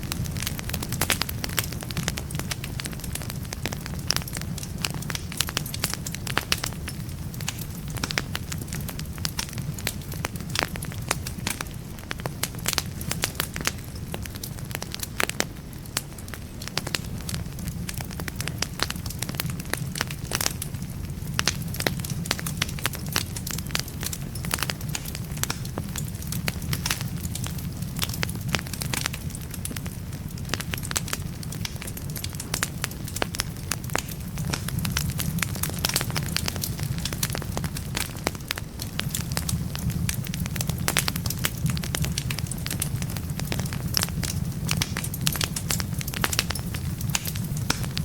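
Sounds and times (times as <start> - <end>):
low rumble of flames: 0.0 - 48.0
wood fire crackling: 0.0 - 48.0.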